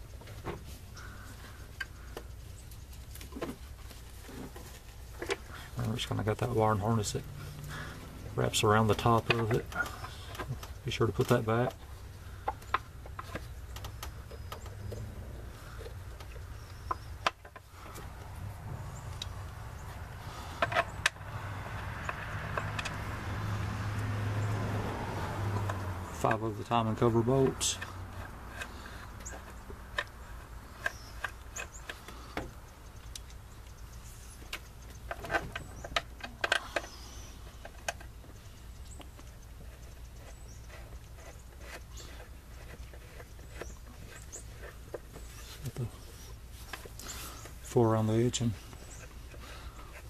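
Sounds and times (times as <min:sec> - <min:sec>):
low steady rumble: 0:00.0 - 0:50.0.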